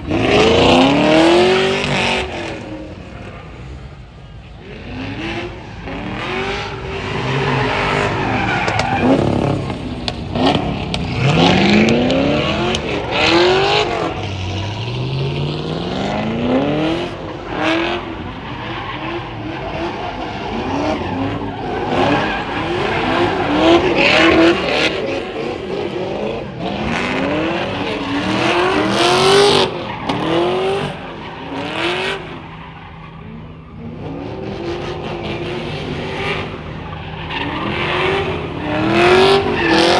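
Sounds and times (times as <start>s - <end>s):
car engines revving hard: 0.0s - 39.9s
tyres squealing and skidding: 0.0s - 39.9s.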